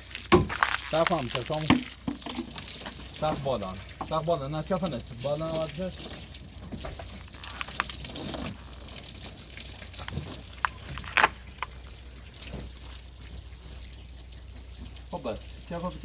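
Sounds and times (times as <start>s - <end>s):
liquid sloshing and trickling: 0.0s - 16.0s.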